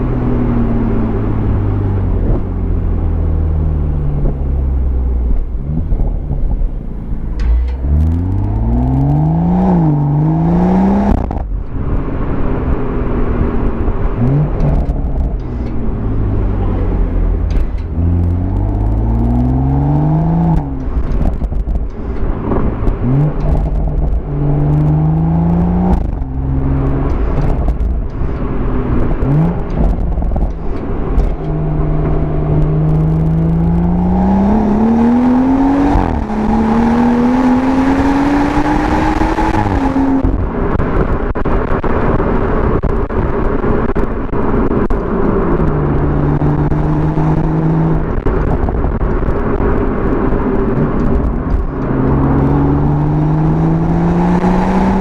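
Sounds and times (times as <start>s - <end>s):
car engine accelerating through gears: 0.0s - 55.0s
exhaust cracks: 3.9s - 55.0s.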